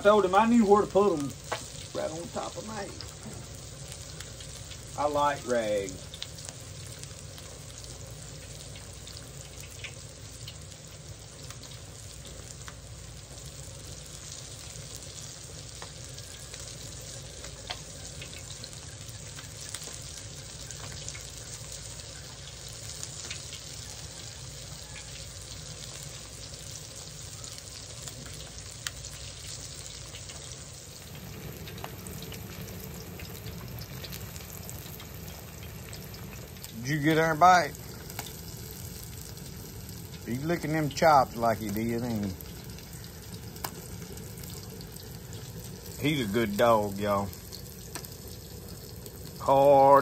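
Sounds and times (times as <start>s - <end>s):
fish frying in oil sizzling: 0.0s - 50.0s.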